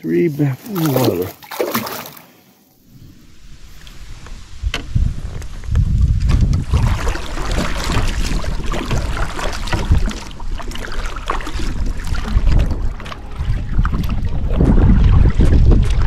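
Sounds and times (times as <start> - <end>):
water sloshing around kayak: 0.2 - 16.0
wind rumbling on microphone: 2.8 - 16.0.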